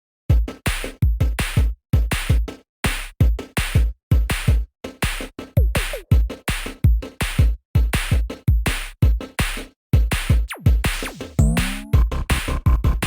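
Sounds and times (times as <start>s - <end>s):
drum-machine beat: 0.3s - 13.0s.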